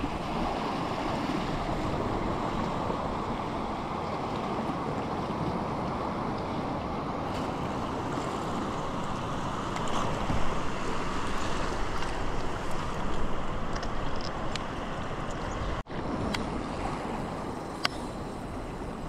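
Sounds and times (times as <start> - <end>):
surf washing over rocks: 0.0 - 15.3.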